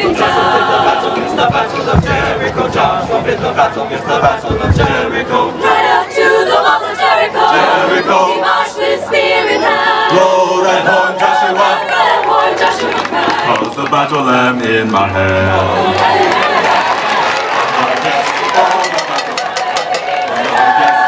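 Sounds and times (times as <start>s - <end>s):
choir singing in harmony: 0.0s - 17.4s.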